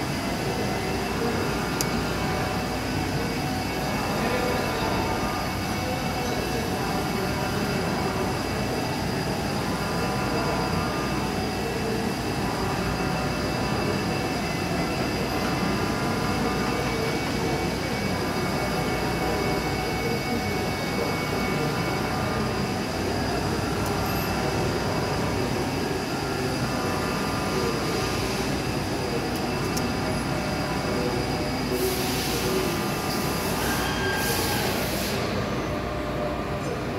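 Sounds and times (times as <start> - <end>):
thin high whines: 0.1 - 35.8.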